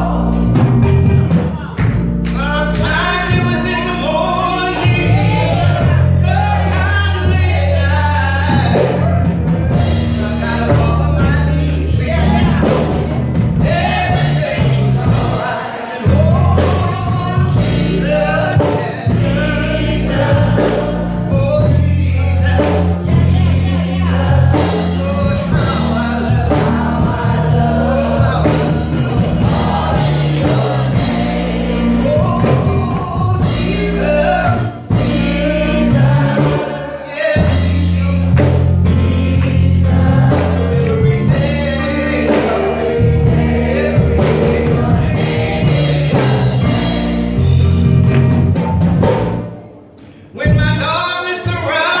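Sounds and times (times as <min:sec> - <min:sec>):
bass line: 0:00.0 - 0:49.7
gospel choir singing: 0:00.0 - 0:49.7
drums: 0:00.0 - 0:52.0
keyboard accompaniment: 0:00.0 - 0:52.0.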